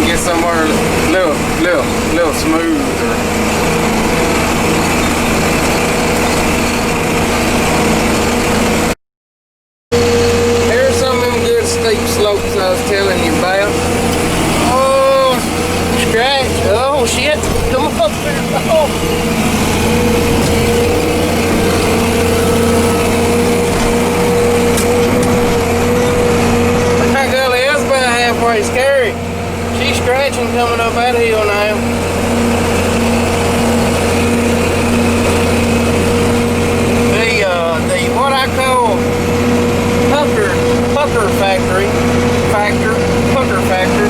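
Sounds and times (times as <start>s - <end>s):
diesel engine droning: 0.0s - 9.0s, 9.9s - 44.0s.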